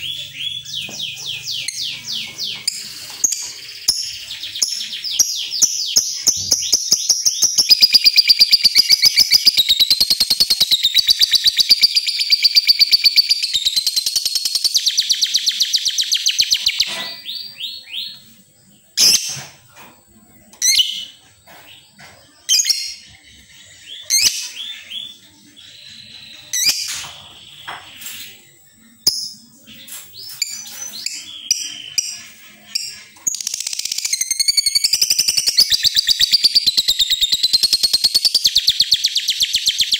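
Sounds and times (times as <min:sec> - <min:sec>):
bird chattering trill: 0:00.0 - 0:18.2, 0:22.5 - 0:39.9
bird chirps and squeaky calls: 0:00.0 - 0:39.9.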